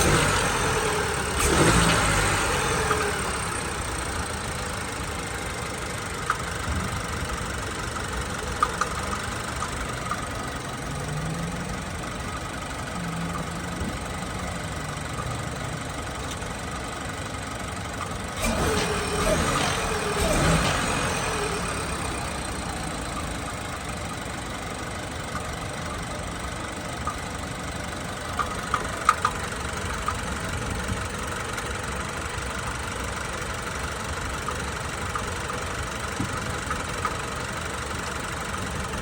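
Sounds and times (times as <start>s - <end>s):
truck engine idling with knock: 0.0s - 39.0s.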